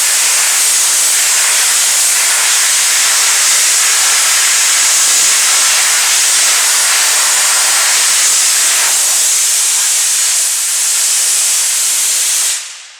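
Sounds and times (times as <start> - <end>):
steam cleaner hissing: 0.0 - 12.9.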